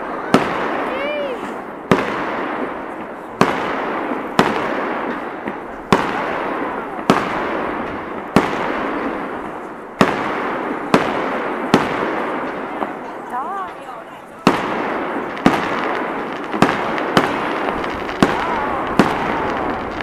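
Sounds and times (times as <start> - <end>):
fireworks bangs with rolling echo: 0.0 - 20.0.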